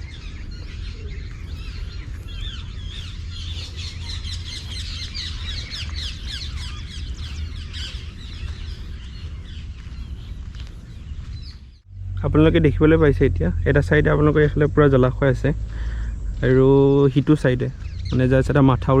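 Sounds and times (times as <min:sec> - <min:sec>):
birds chirping and squawking: 0:00.0 - 0:19.0
low rumble: 0:00.0 - 0:19.0.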